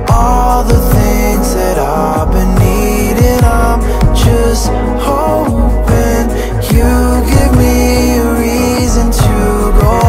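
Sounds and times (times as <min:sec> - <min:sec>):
deep bass hits: 0:00.0 - 0:10.0
pop music with a beat: 0:00.0 - 0:10.0.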